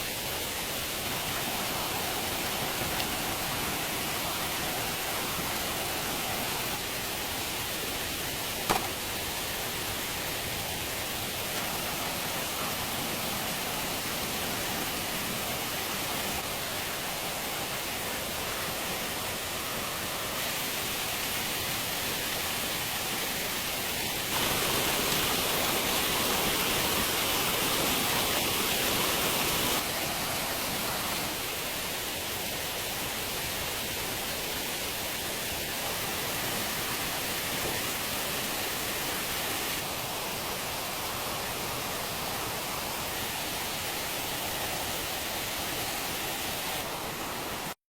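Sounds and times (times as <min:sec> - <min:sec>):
water rushing: 0:00.0 - 0:47.8.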